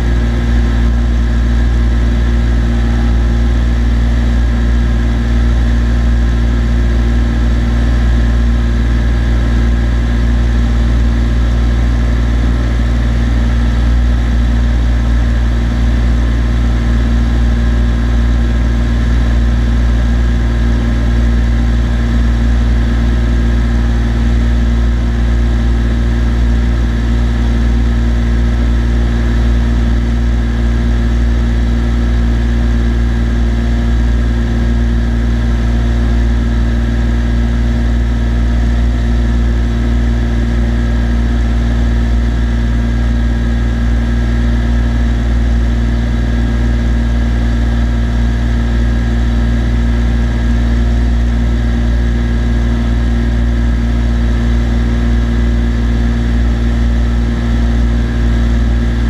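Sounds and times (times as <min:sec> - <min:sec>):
airplane engine droning: 0:00.0 - 0:59.0.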